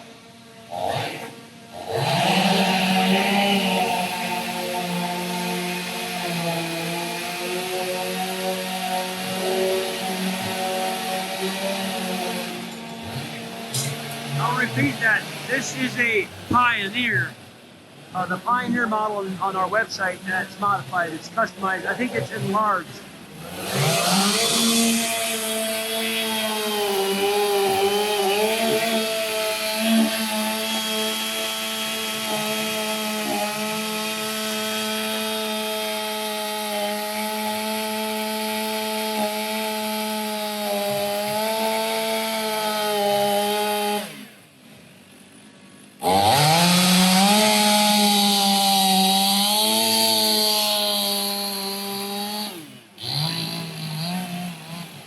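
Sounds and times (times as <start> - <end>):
chainsaw cutting log: 0.3 - 55.0.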